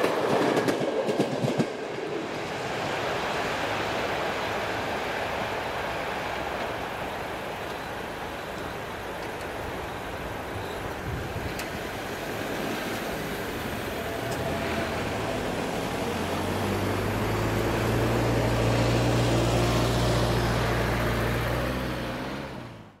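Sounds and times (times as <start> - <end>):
vehicles crossing level crossing: 1.7 - 23.0
low engine hum: 2.4 - 23.0.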